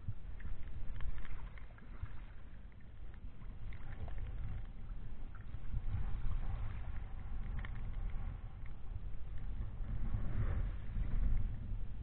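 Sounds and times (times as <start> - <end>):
water lapping at shore: 0.0 - 11.5
low uneven rumble: 0.0 - 12.0.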